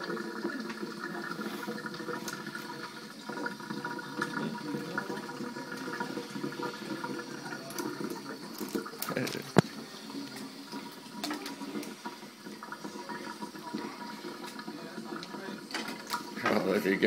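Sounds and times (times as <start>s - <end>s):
tap running into water: 0.0s - 17.0s.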